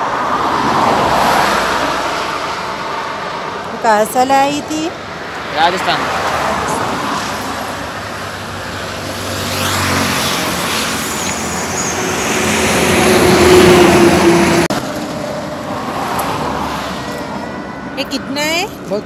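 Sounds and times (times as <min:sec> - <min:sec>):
vehicle passing close by: 0:00.0 - 0:18.0.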